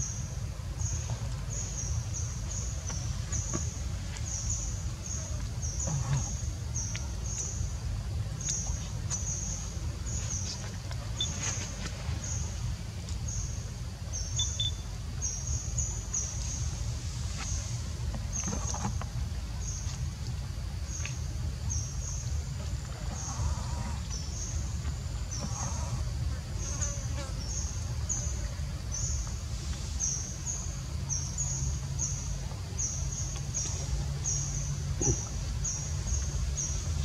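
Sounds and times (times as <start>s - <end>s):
insects chirping: 0.0s - 37.0s
steady low rumble: 0.0s - 37.0s.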